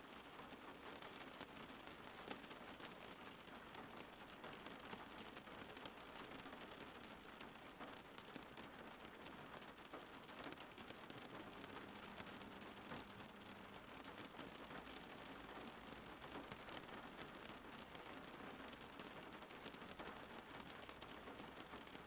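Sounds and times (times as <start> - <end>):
faint rain hiss: 0.0 - 22.0
rain drop ticks: 0.2 - 22.0.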